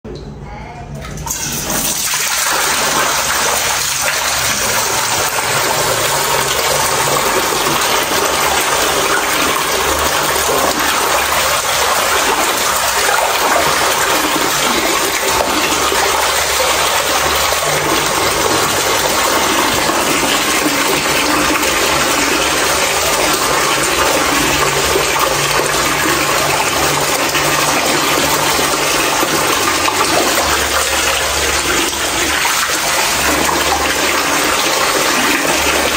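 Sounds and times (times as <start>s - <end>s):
rushing water: 1.6s - 35.9s.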